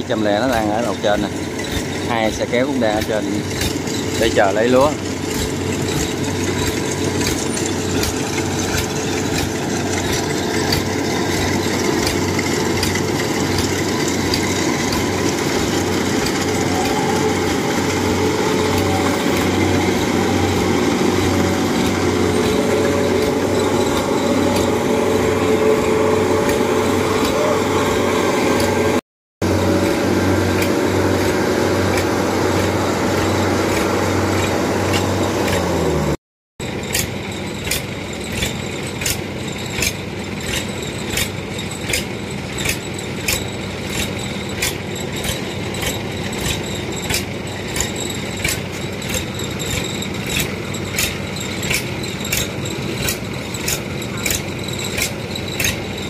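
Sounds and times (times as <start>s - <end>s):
harvester engine hum: 0.0s - 56.0s
mechanical clatter: 0.0s - 56.0s.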